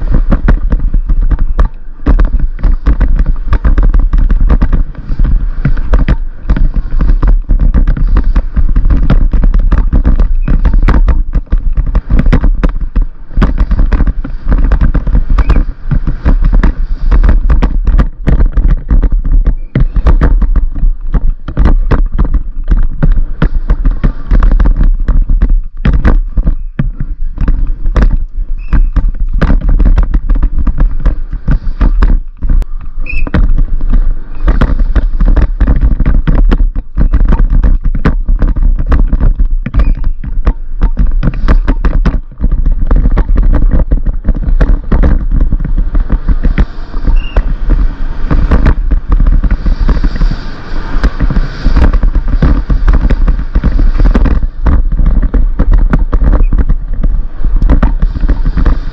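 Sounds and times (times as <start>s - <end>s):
bike rattling over bumps: 0.0s - 58.9s
wind buffeting microphone: 0.0s - 58.9s.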